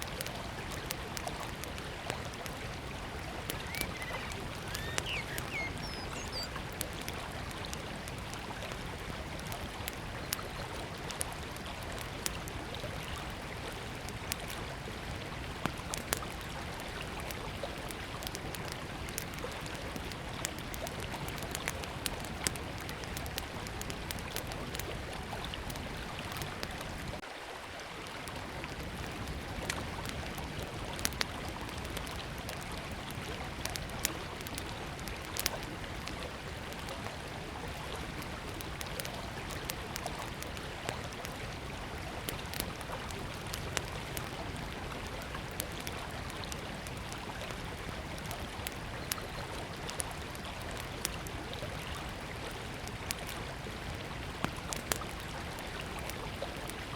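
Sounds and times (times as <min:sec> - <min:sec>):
campfire crackling and popping: 0:00.0 - 0:27.2, 0:28.3 - 0:56.9
river flowing: 0:00.0 - 0:56.9.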